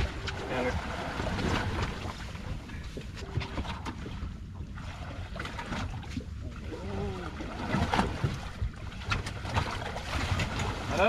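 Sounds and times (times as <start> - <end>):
water against boat hull: 0.0 - 11.0.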